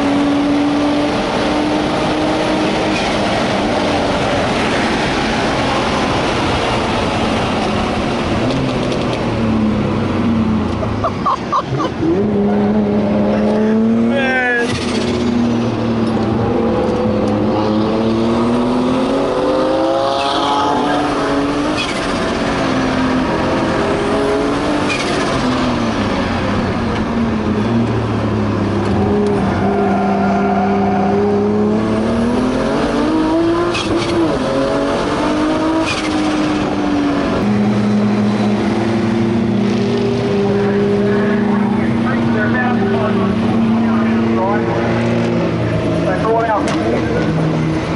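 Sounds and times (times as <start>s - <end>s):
car engine under load: 0.0s - 47.9s.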